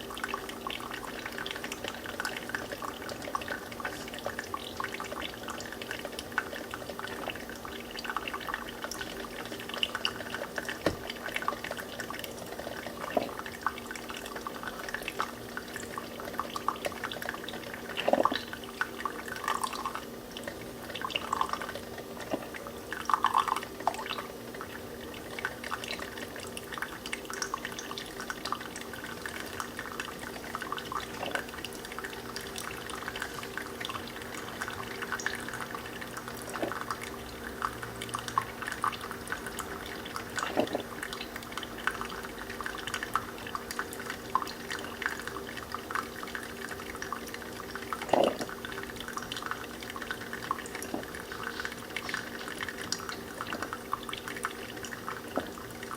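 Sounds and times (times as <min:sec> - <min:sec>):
coffee dripping into a glass: 0:00.0 - 0:55.9.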